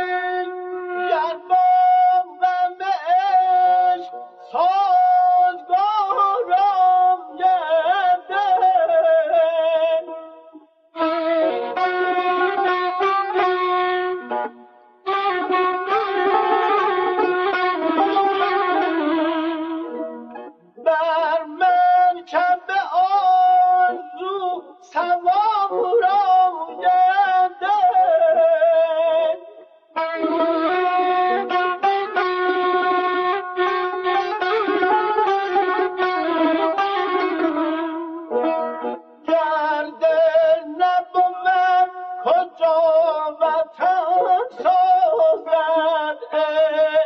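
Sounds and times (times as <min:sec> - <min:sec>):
man singing with ornaments: 0:00.0 - 0:47.0.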